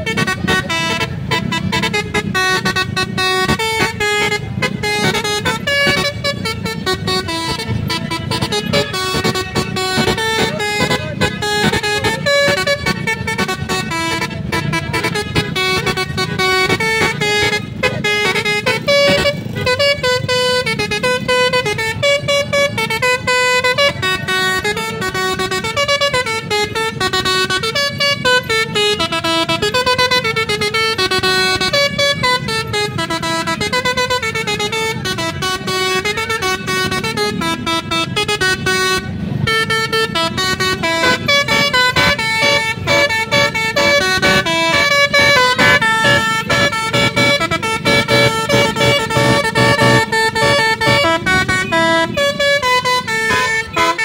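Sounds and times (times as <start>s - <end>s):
low rumble of engines: 0.0s - 54.0s
multi-tone melodic horn: 0.0s - 54.0s.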